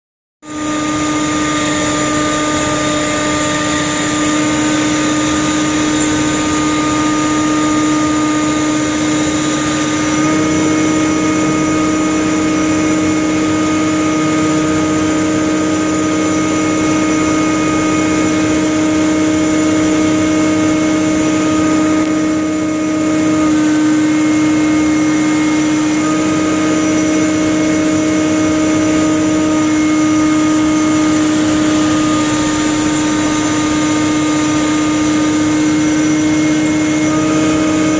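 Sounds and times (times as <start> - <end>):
deck machinery humming: 0.4 - 37.9.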